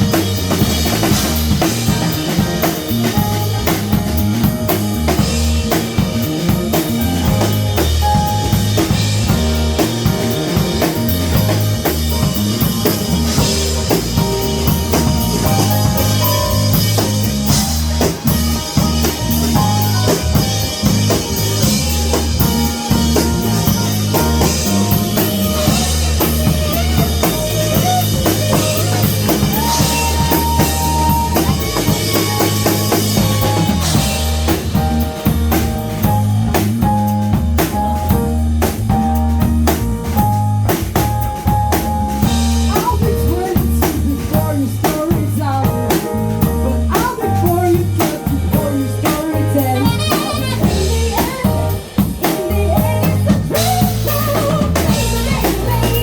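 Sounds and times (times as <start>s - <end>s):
held melody notes: 0.0s - 42.7s, 48.7s - 53.2s
bass line: 0.0s - 56.0s
drum kit groove: 0.0s - 56.0s
jazz-funk band playing: 0.0s - 56.0s.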